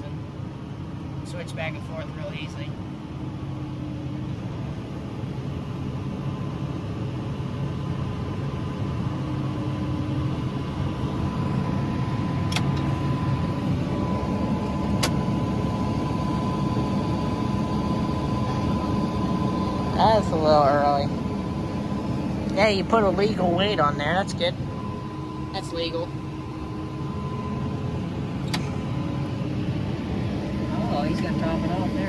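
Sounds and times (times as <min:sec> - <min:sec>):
steady high whine: 0:00.0 - 0:32.0.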